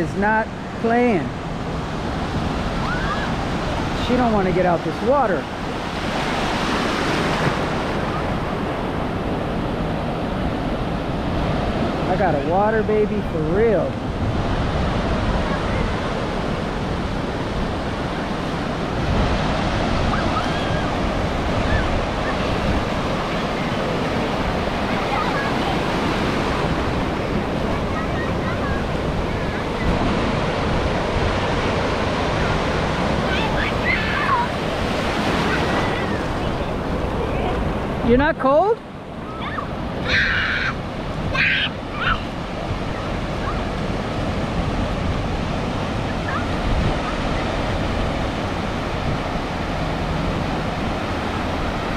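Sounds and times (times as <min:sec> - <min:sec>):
ocean waves breaking: 0:00.0 - 0:51.9
wind rumbling on microphone: 0:00.0 - 0:51.9.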